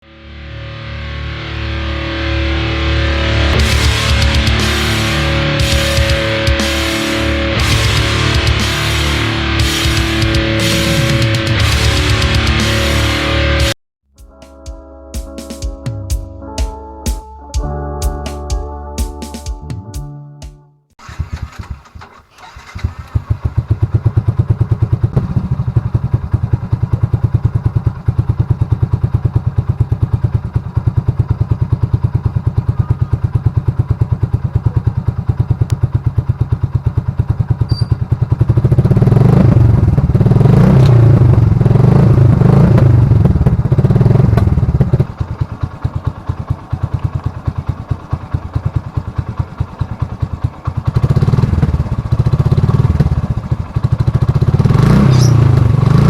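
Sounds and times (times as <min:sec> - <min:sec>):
engine idling and revving: 0:01.1 - 0:13.8, 0:21.0 - 0:56.0.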